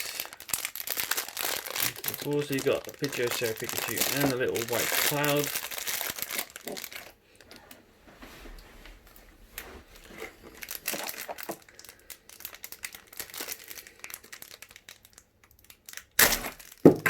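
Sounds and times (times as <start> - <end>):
plastic packaging crinkling: 0.0 - 7.7, 9.6 - 17.0.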